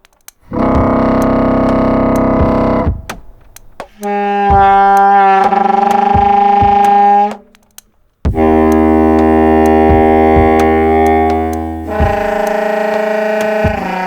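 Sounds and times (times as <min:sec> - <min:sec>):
scattered clicks: 0:00.0 - 0:14.0
foghorn blasts: 0:00.5 - 0:03.1, 0:04.0 - 0:07.5, 0:08.3 - 0:14.0.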